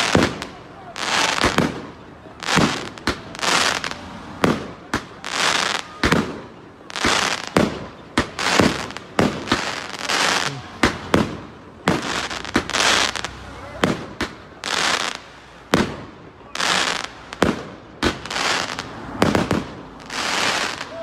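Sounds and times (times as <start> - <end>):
firework crackling: 0.0 - 21.0.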